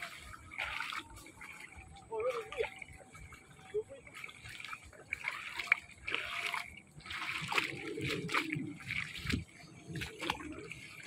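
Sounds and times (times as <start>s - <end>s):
footsteps splashing in water: 0.0s - 11.0s.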